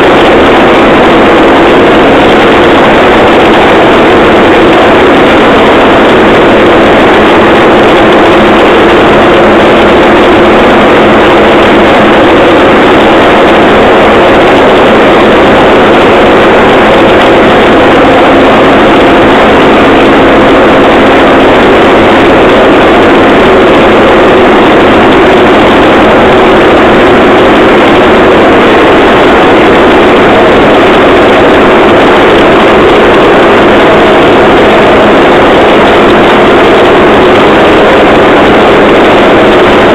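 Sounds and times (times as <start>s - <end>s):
rail trolley engine drone: 0.0s - 39.9s.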